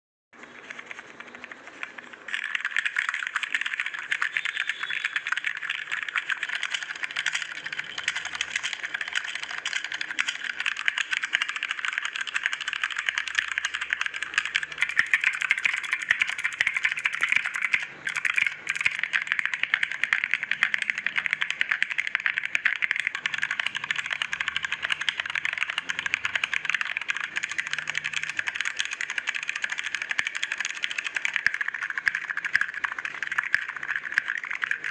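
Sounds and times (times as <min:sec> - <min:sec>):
rapid keyboard typing: 0:00.4 - 0:34.9.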